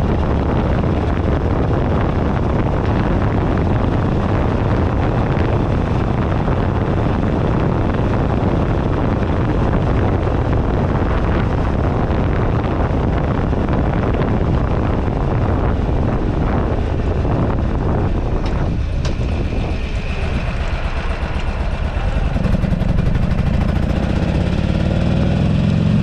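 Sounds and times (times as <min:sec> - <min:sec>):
motorcycle engine running: 0:00.0 - 0:26.0
wind buffeting camera: 0:00.0 - 0:26.0.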